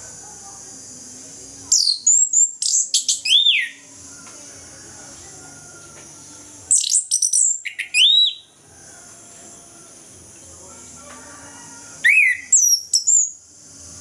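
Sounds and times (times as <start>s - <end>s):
steady high hiss: 0.0s - 14.0s
thrush singing whistled notes: 1.4s - 14.0s.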